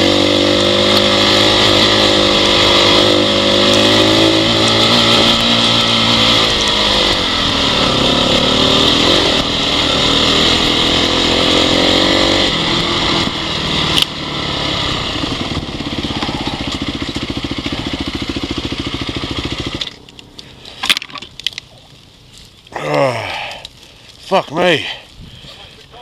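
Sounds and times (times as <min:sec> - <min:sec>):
dirt bike engine running: 0:00.0 - 0:21.1.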